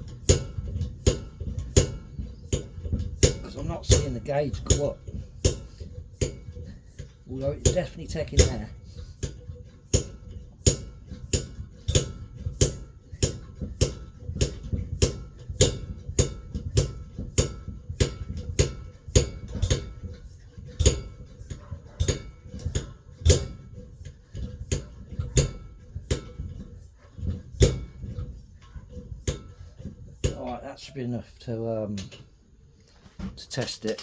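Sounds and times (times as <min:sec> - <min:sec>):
hand air pump strokes: 0:00.0 - 0:34.0.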